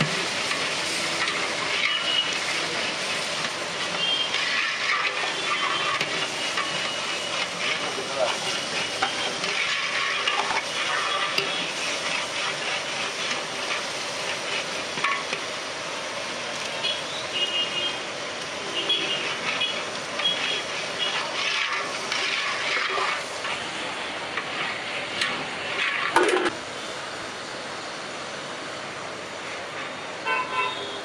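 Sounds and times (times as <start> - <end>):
street traffic noise: 0.0 - 31.0.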